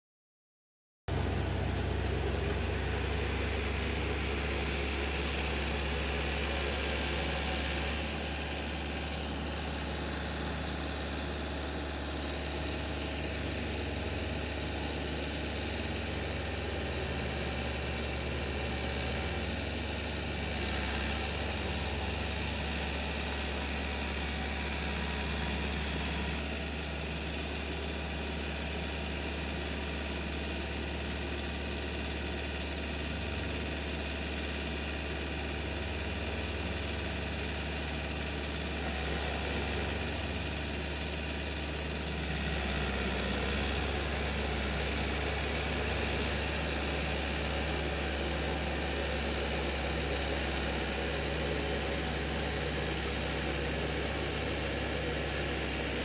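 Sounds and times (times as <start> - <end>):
distant tractor engine droning: 1.1 - 28.4, 36.3 - 56.0.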